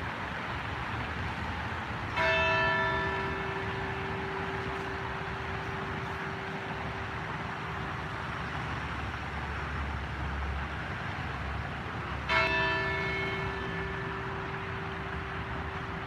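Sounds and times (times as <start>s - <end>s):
constant hum: 0.0s - 16.0s
street traffic rumble: 0.0s - 16.0s.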